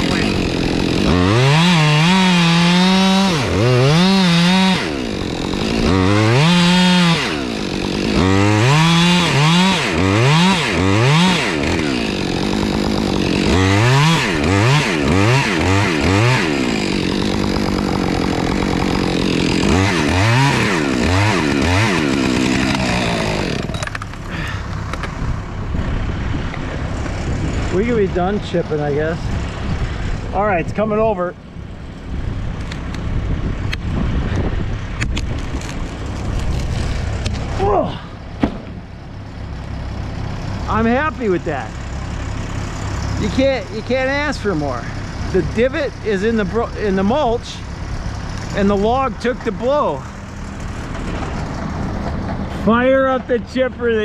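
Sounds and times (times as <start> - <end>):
chainsaw revving: 0.0 - 25.7, 26.8 - 31.0, 35.2 - 37.8, 38.8 - 54.0.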